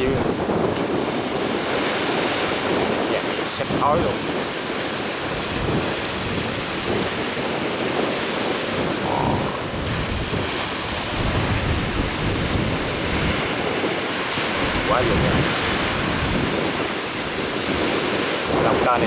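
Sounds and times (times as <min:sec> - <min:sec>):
rough sea breaking around boat: 0:00.0 - 0:19.0
wind buffeting microphone: 0:00.0 - 0:19.0.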